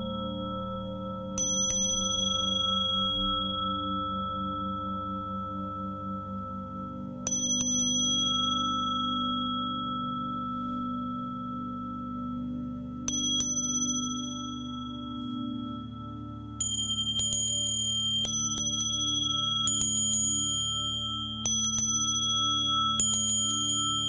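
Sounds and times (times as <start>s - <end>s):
small high-pitched bell struck: 0.0s - 15.8s, 16.6s - 24.0s
singing bowls ringing: 0.0s - 24.0s.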